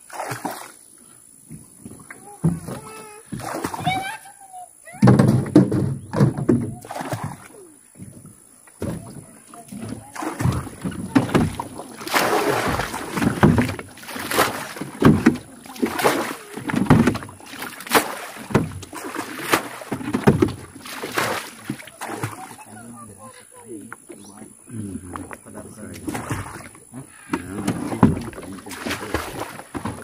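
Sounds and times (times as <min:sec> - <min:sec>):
water scooping and splashing: 0:00.0 - 0:00.8, 0:01.9 - 0:04.1, 0:05.1 - 0:23.0, 0:25.8 - 0:30.0.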